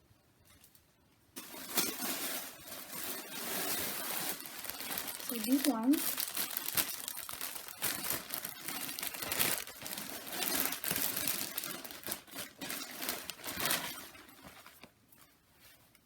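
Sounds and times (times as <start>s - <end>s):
plastic packaging crinkling: 1.4s - 16.0s.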